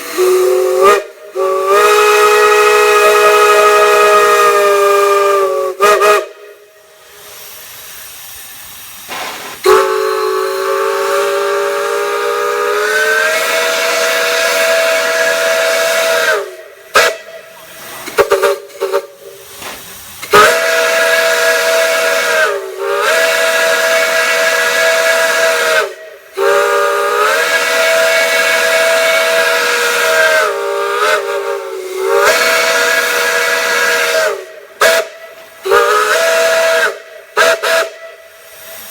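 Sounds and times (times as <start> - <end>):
steam whistle blasts: 0.0 - 7.9, 9.1 - 19.5, 20.2 - 38.9
steam hissing: 0.0 - 38.9.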